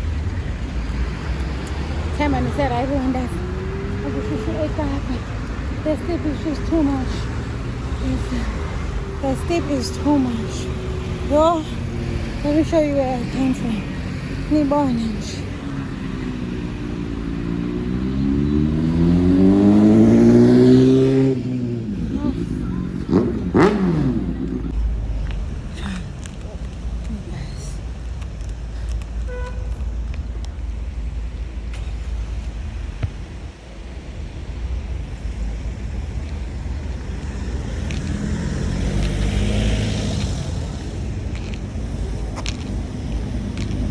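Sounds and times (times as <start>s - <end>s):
vehicle engine accelerating: 0.0s - 27.1s, 33.8s - 43.9s.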